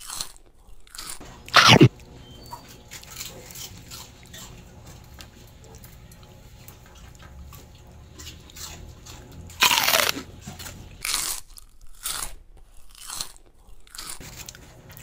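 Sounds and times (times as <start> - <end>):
dog crunching a chip: 0.0 - 2.0, 2.6 - 15.0.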